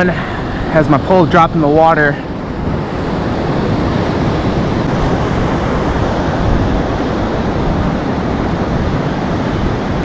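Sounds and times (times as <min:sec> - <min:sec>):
ocean surf breaking: 0:00.0 - 0:10.0
wind buffeting microphone: 0:00.0 - 0:10.0.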